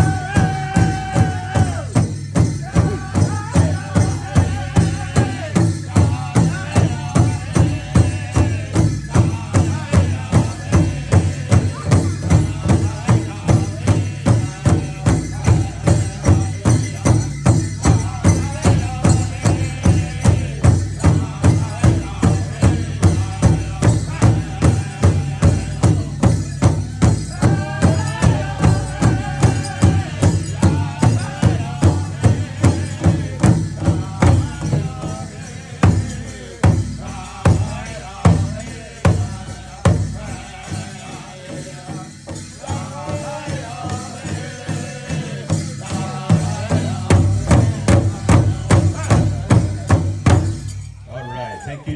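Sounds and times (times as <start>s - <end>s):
drum beating: 0.0s - 51.4s
voices singing: 0.0s - 51.9s.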